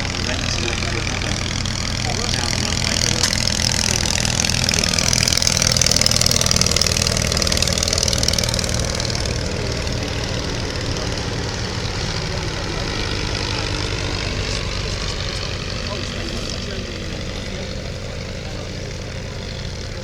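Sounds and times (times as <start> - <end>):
small aircraft engine pulsing: 0.0 - 20.0.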